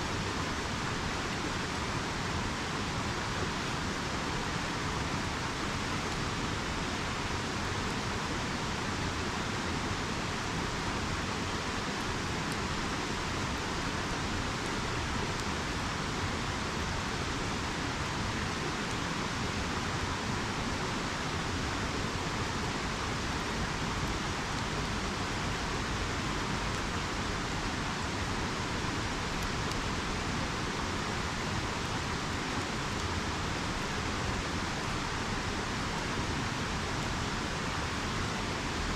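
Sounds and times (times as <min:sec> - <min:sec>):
faint campfire crackles: 0:00.0 - 0:38.9
river rushing: 0:00.0 - 0:38.9.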